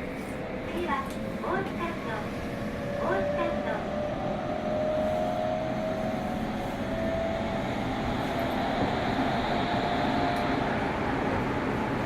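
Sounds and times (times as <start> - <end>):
faint train whine: 0.0 - 12.0
train wheels rumbling on rail: 0.0 - 12.0.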